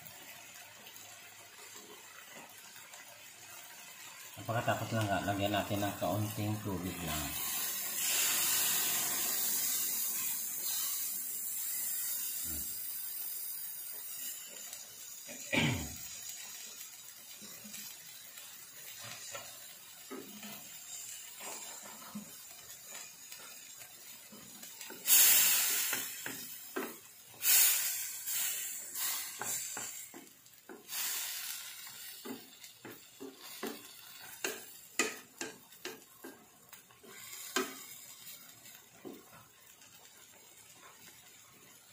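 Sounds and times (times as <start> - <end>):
water sizzling in hot pan: 0.0 - 41.9.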